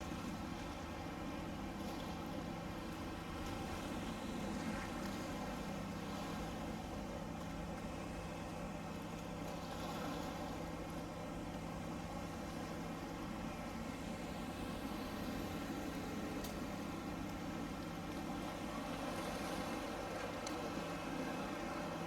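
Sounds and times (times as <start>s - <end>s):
steady engine drone: 0.0s - 22.0s.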